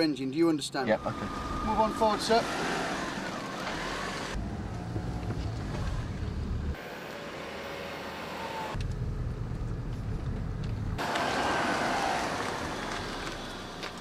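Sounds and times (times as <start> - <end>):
car engine and tyre rumble: 0.0 - 14.0
car rolling past: 0.9 - 14.0.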